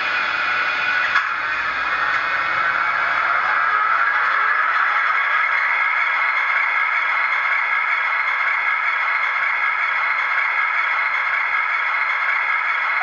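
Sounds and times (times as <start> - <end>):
model locomotive running sound: 0.0 - 13.0.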